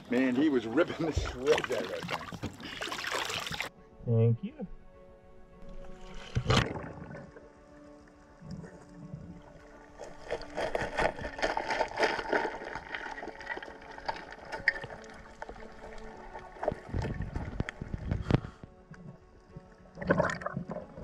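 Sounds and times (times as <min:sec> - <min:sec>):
water sloshing and gurgling: 0:00.0 - 0:03.7, 0:05.6 - 0:21.0.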